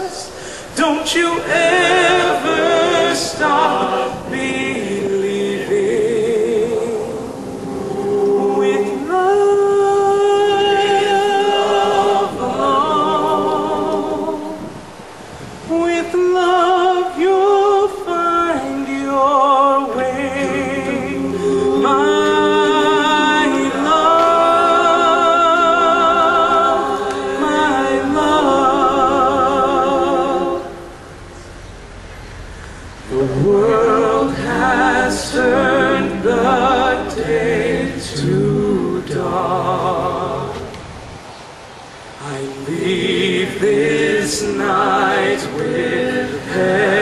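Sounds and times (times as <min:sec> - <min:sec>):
male choir singing harmony: 0:00.0 - 0:31.4, 0:33.0 - 0:47.0.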